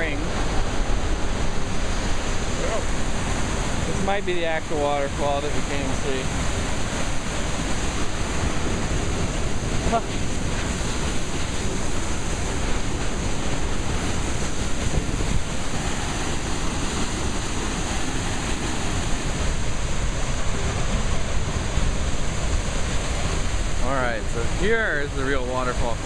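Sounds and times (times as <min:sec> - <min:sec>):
waterfall rushing: 0:00.0 - 0:26.0
wind rumbling on microphone: 0:00.0 - 0:26.0.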